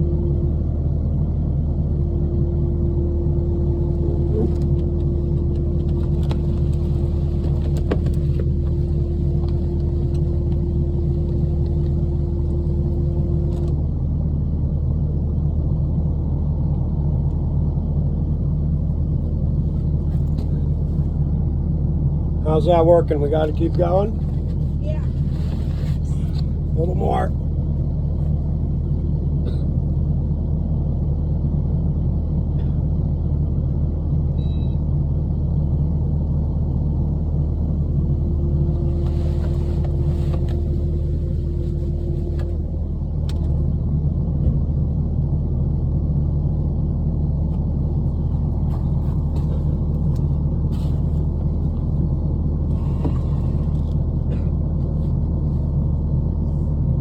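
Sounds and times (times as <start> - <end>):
engine running low rumble: 0.0 - 57.0.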